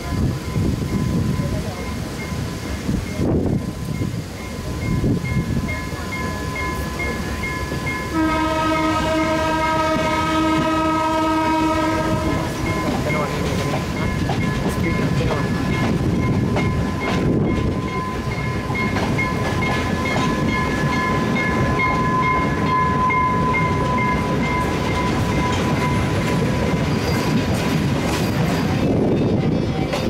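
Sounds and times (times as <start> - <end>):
steady high tone: 0.0 - 27.5
train rumble with rail clatter: 0.0 - 30.0.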